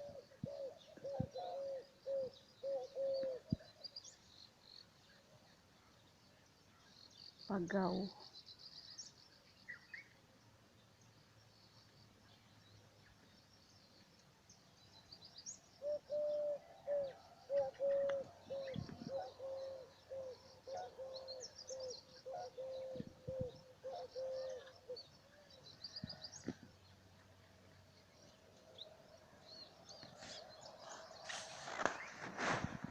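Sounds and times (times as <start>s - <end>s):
birds chirping and twittering: 0.0s - 32.9s.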